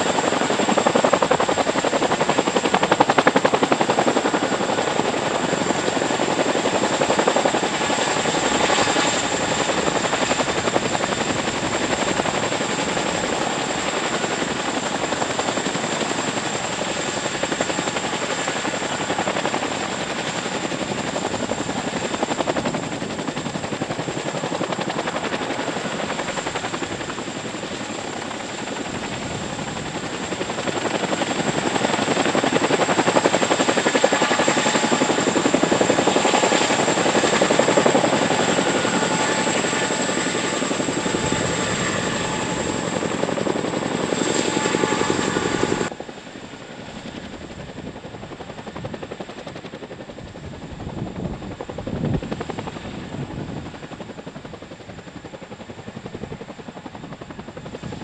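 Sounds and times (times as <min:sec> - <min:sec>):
helicopter rotor and engine noise: 0:00.0 - 0:58.0.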